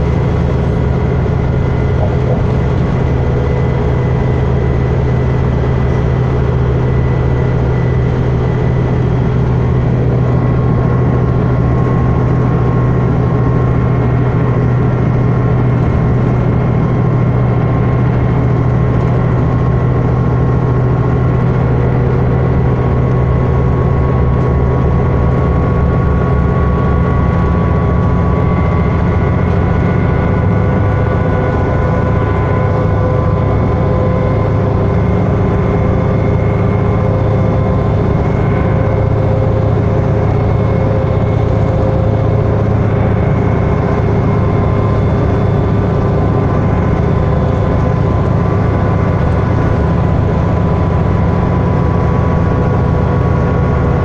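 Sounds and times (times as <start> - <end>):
bus diesel engine drone: 0.0 - 54.0
road noise: 0.0 - 54.0
steady whining tones: 0.0 - 54.0.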